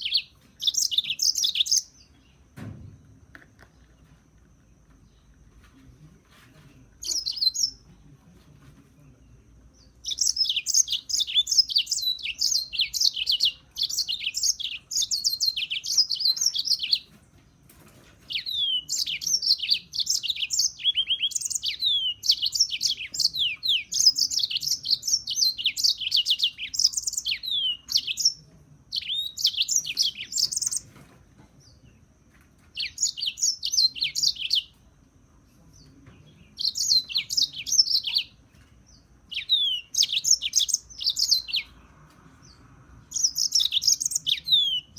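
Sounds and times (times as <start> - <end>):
bird twittering song: 0.0 - 2.6, 3.6 - 8.2, 8.9 - 44.9.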